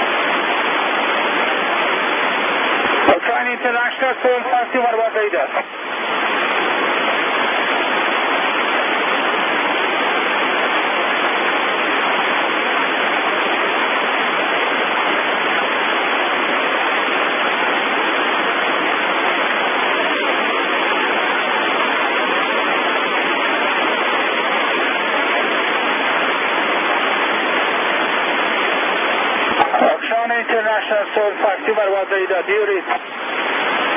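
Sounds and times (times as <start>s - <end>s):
radio static hiss: 0.0s - 33.9s.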